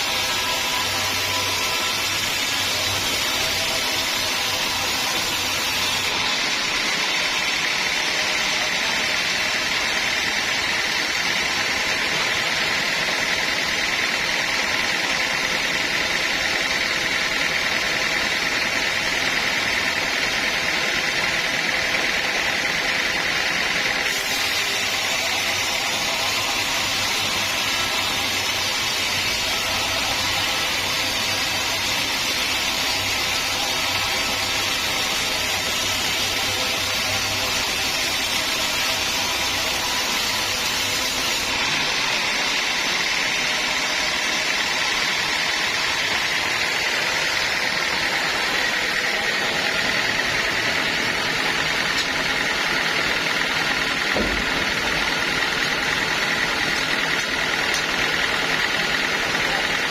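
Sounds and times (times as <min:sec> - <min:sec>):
sawmill machinery din: 0:00.0 - 0:59.9.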